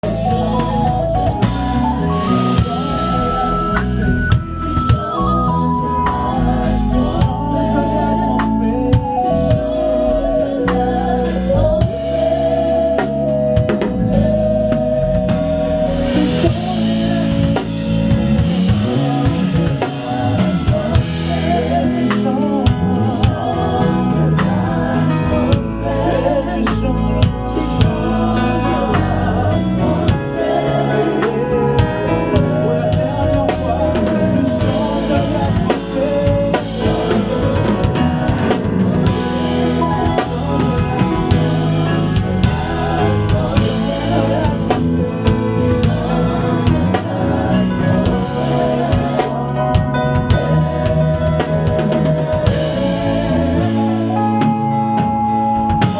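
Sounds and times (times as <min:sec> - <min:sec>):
gospel band playing: 0:00.0 - 0:55.9
singers holding long notes: 0:00.0 - 0:55.9.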